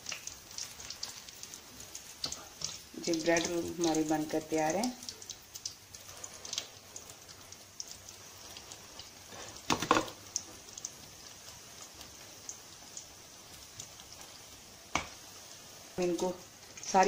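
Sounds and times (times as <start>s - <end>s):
food frying in hot oil: 0.0s - 17.0s.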